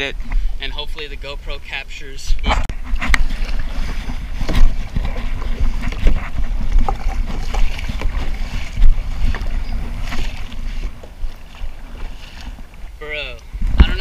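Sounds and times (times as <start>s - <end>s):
water splashing against hull: 0.0s - 14.0s
wind buffeting microphone: 0.0s - 14.0s
paddle splashes: 2.4s - 14.0s.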